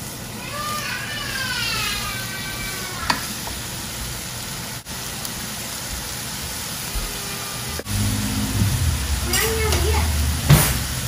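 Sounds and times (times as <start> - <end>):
meat and onions sizzling: 0.0 - 11.0.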